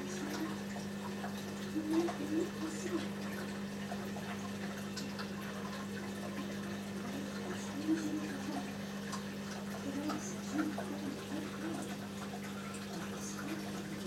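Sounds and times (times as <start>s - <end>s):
aquarium low hum: 0.0s - 14.0s
moving water: 0.0s - 14.0s.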